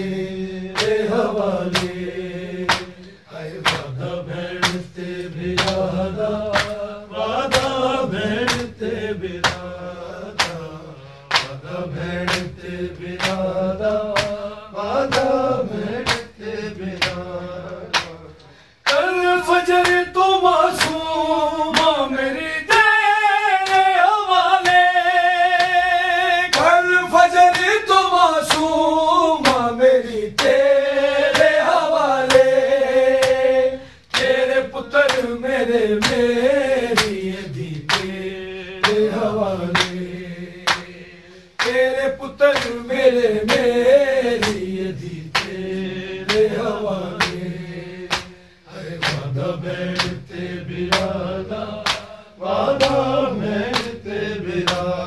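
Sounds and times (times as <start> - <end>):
men chanting a lament: 0.0 - 55.0
rhythmic chest-beating slaps: 0.0 - 55.0.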